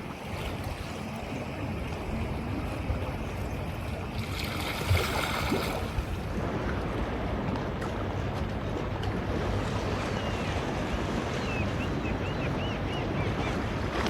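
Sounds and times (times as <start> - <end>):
sea: 0.0 - 14.0
wind: 0.0 - 14.0.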